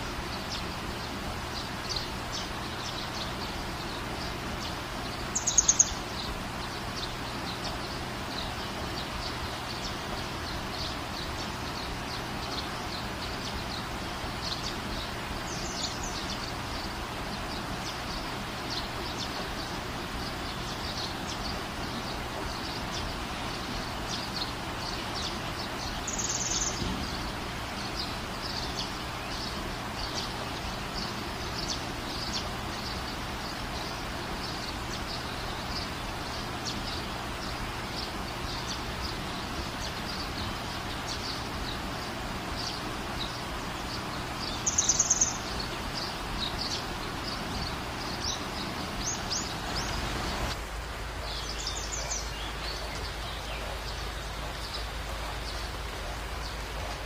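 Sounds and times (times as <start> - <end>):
light rain hissing: 0.0 - 57.0
small birds chirping: 0.0 - 57.0.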